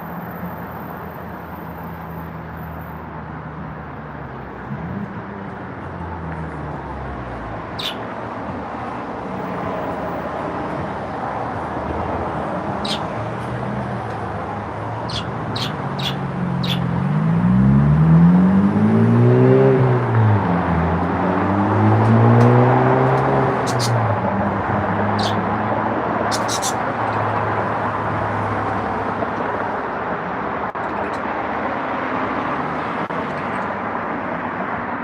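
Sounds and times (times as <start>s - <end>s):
vehicle engine rumbling: 4.2s - 34.9s.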